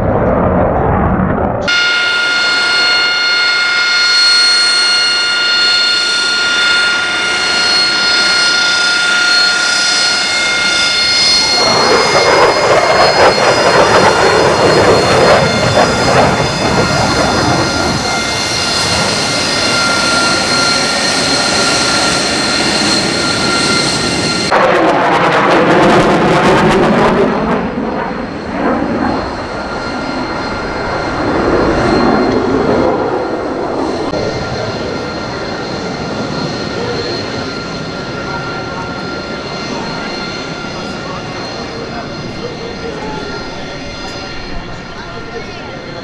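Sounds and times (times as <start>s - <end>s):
jet engine turbine whine: 0.0s - 46.0s
passing jet roar: 0.0s - 46.0s.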